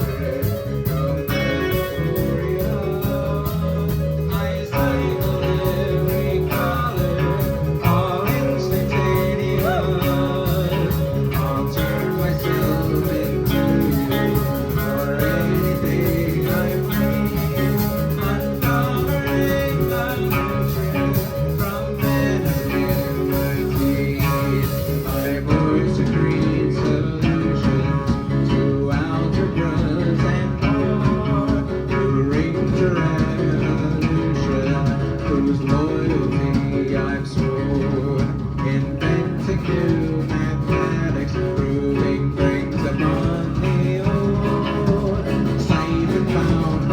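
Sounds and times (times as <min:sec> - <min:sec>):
live band with guitar: 0:00.0 - 0:46.9.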